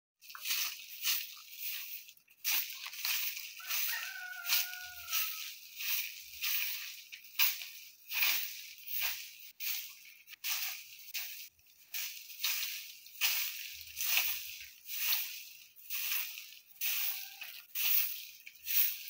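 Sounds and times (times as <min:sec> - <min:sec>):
twig broom sweeping earth: 0:00.2 - 0:19.0.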